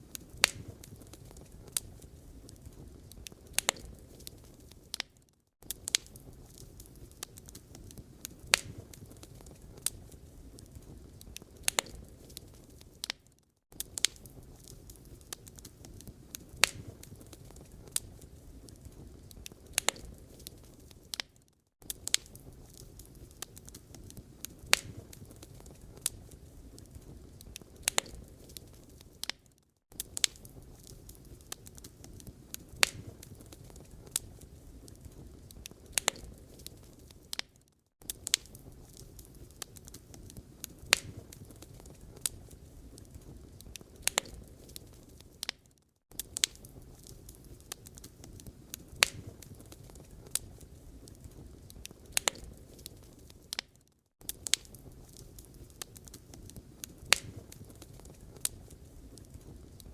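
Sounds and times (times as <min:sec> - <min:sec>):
low rumble of flames: 0:00.0 - 0:21.2, 0:21.8 - 0:37.4, 0:38.0 - 0:53.6, 0:54.2 - 0:59.9
fire crackles and pops: 0:00.0 - 0:59.9.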